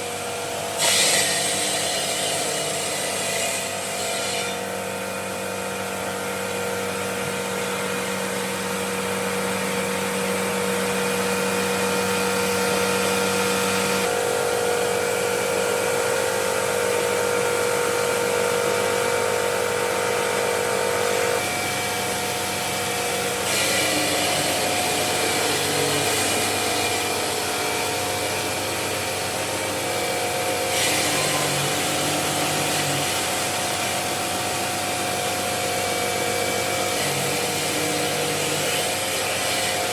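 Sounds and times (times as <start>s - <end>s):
stone-working machinery humming: 0.0s - 39.9s.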